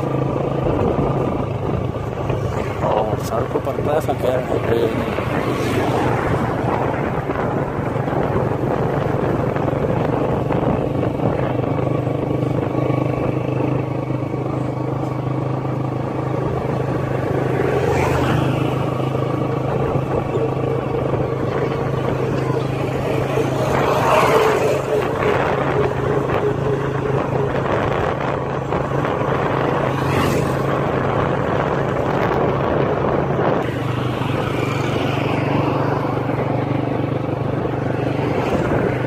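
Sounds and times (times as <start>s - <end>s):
road and wind noise: 0.0s - 39.0s
vehicle engine cruising: 0.0s - 39.0s.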